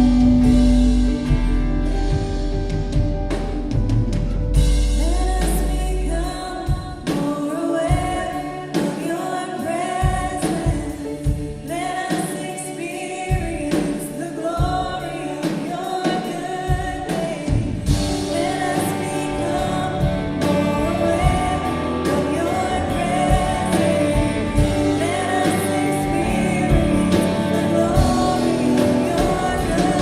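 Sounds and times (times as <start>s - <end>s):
live band playing: 0.0s - 30.0s
singers singing: 5.0s - 30.0s.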